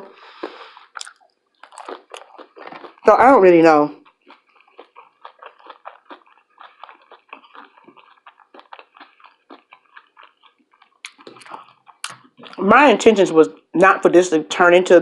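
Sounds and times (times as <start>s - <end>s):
person chewing food: 0.0s - 12.6s, 13.5s - 13.7s.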